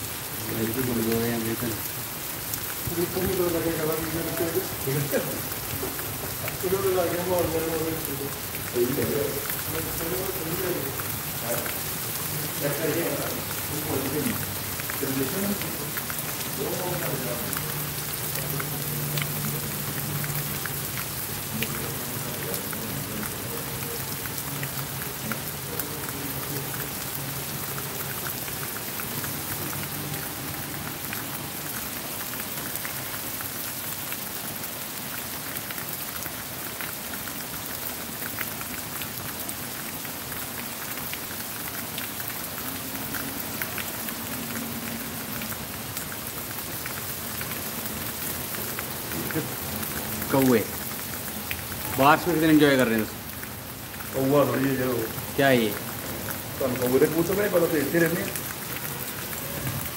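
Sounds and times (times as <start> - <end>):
rain on hard ground: 0.0 - 59.9
rain drop ticks: 0.2 - 59.9.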